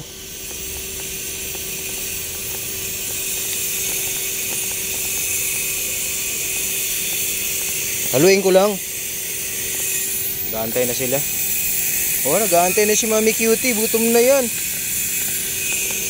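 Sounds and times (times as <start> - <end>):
high hiss: 0.0 - 16.0.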